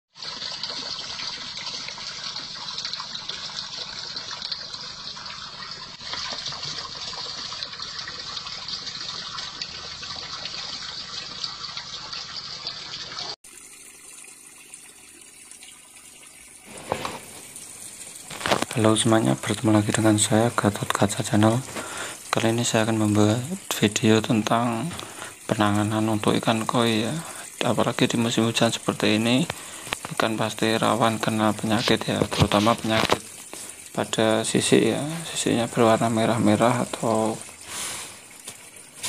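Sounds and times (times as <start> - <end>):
pond water splashing: 0.1 - 39.0
quieter water sound: 0.1 - 39.0.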